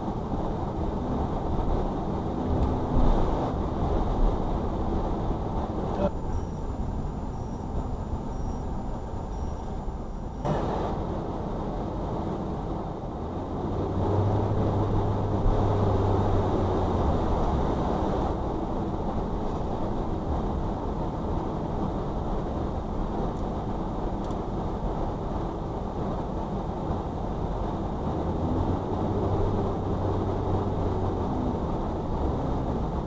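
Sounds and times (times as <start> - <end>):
car tyres and engine rumble: 0.0 - 33.0.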